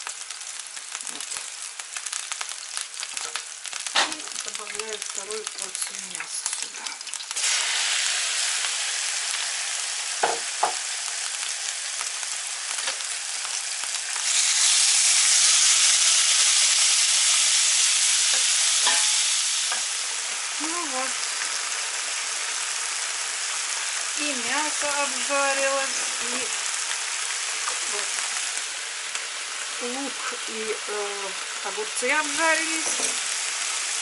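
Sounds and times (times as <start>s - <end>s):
pork sizzling in a frying pan: 0.0s - 34.0s.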